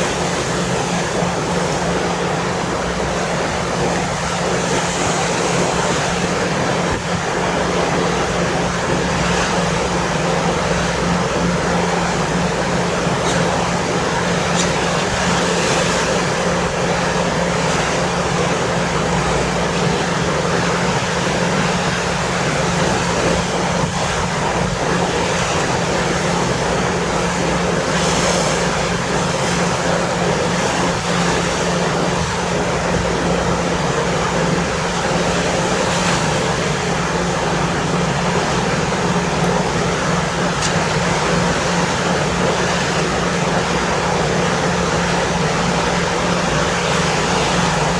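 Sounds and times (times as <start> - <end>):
ship engines droning: 0.0 - 47.9
wind and sea rushing: 0.0 - 47.9.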